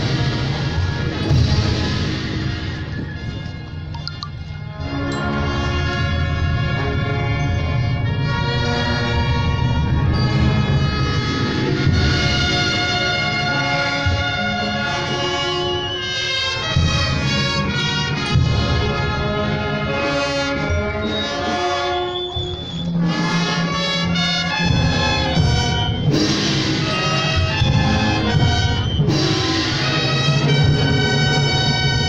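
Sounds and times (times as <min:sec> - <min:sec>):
brass band playing funeral march: 0:00.0 - 0:32.0.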